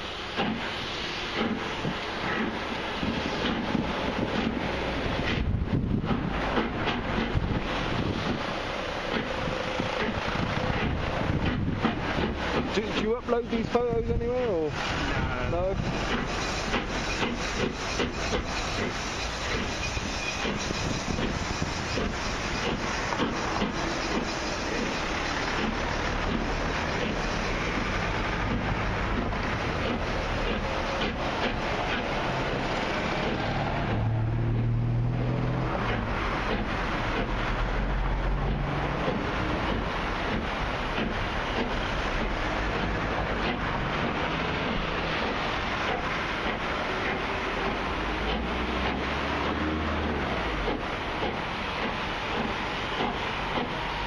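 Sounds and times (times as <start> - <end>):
train coaches rumbling on track: 0.0 - 54.0.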